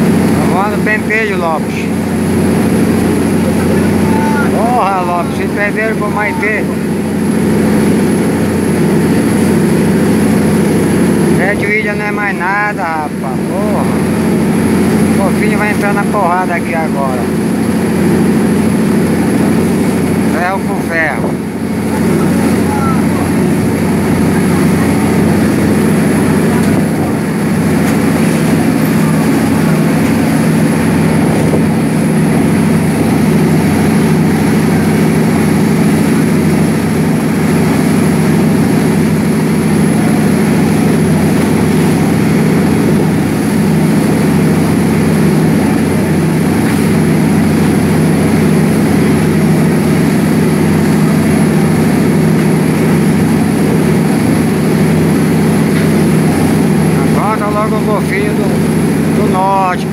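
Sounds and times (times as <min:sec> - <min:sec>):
diesel engine running hard: 0:00.0 - 0:59.9
water rushing along hull: 0:00.0 - 0:59.9.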